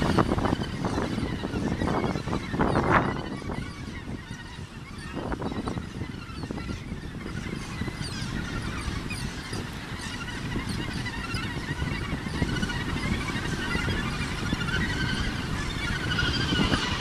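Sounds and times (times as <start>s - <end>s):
gannets calling: 0.0s - 17.0s.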